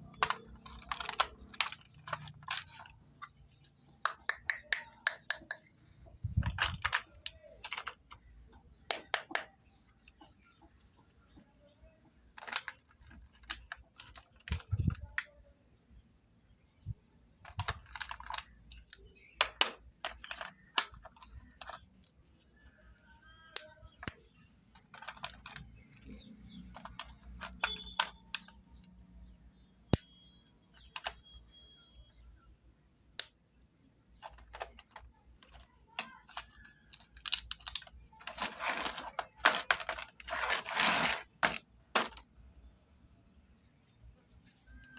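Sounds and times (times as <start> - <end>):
plastic toys clicking and tapping: 0.0 - 11.1, 12.1 - 15.4, 17.4 - 29.2, 30.0 - 31.4, 34.0 - 42.4.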